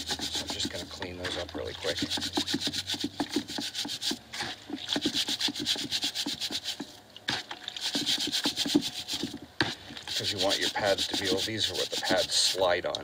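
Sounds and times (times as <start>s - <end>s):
stiff brush scrubbing metal: 0.0s - 13.0s.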